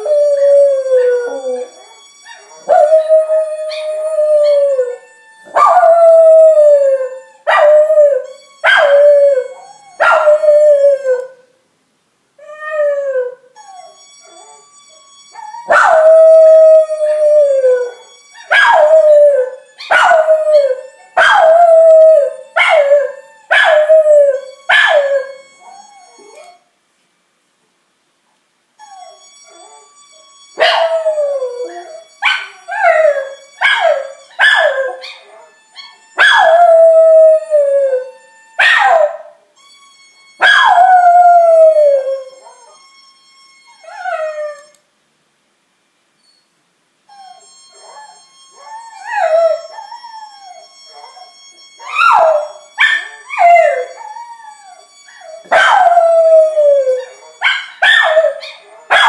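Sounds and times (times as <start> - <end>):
dog howling and yelping: 0.0 - 11.4, 12.4 - 26.6, 28.8 - 39.4, 40.4 - 43.0, 43.6 - 44.8, 47.1 - 59.0.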